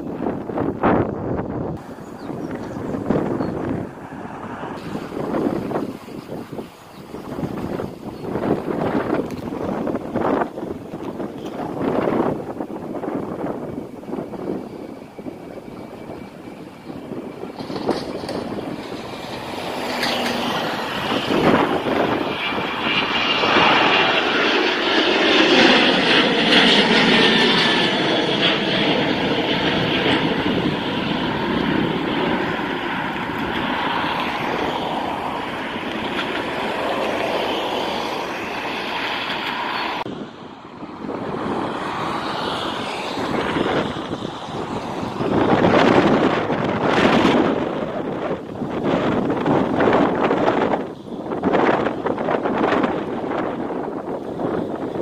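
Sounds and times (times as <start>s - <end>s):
quiet jet rumble: 0.0s - 48.8s
jet engines roaring at takeoff: 0.0s - 55.0s.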